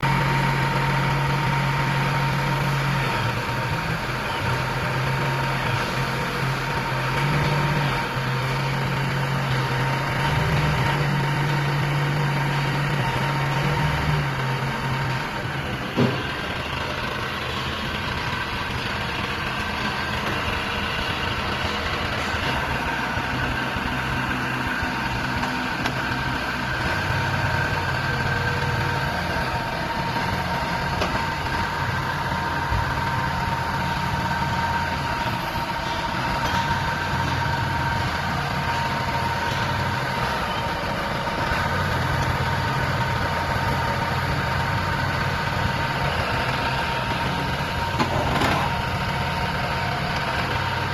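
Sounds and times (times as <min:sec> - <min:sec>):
backhoe engine running: 0:00.0 - 0:50.9.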